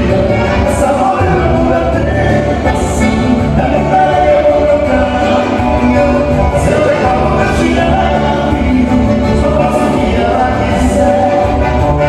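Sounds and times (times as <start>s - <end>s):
accordion: 0.0s - 12.0s
electric guitar: 0.0s - 12.0s
keyboard: 0.0s - 12.0s
man singing: 0.0s - 12.0s.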